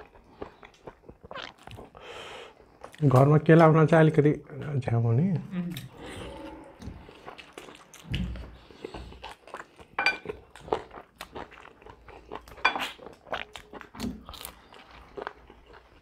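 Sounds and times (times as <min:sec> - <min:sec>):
people chewing and biting meat: 0:00.0 - 0:03.7, 0:05.6 - 0:16.0.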